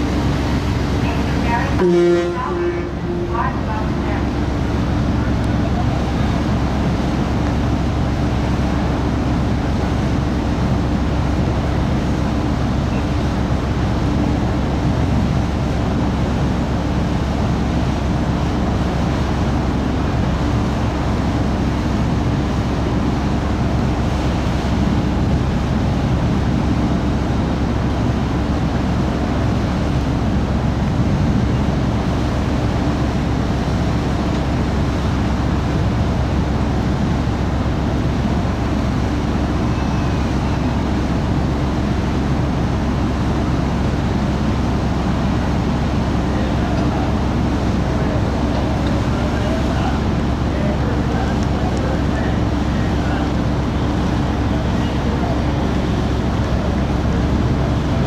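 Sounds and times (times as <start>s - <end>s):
ferry engines rumbling: 0.0s - 58.0s
wind and water noise: 0.0s - 58.0s.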